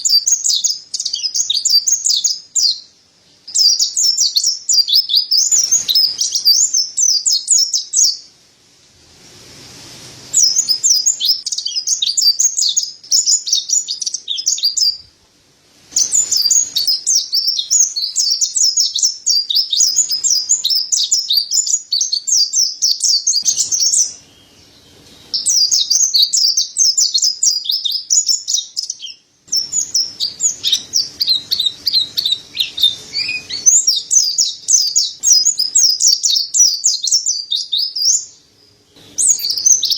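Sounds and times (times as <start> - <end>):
bird twittering chirps: 0.0 - 8.3, 10.3 - 15.1, 15.9 - 39.9.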